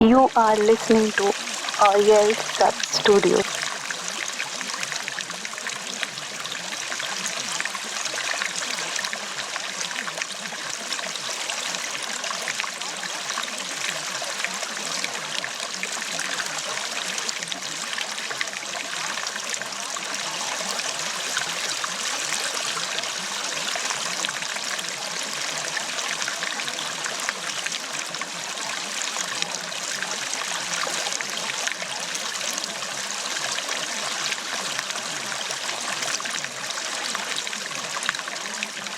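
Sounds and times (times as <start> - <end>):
stream of running water: 0.1 - 38.9.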